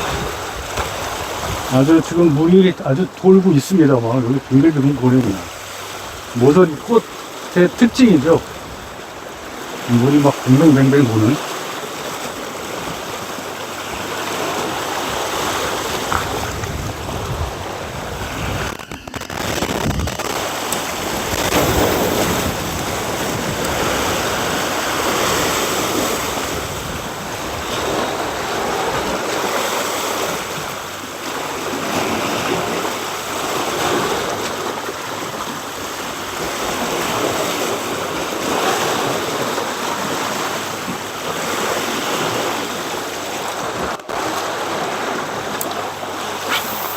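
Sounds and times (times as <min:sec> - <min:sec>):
surf washing against rocks: 0:00.0 - 0:46.9.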